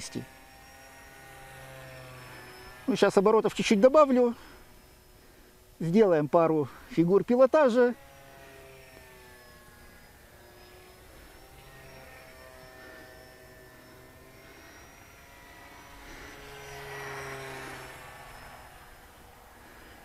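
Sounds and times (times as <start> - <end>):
model plane motor drone: 0.0 - 20.0.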